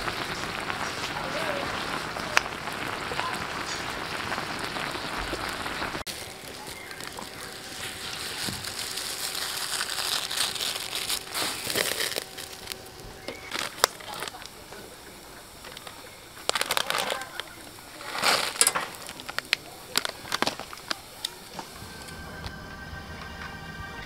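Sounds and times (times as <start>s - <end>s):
plastic bag crinkling: 0.0s - 22.2s
fire crackling: 0.0s - 24.0s
stew boiling and bubbling: 0.0s - 24.0s.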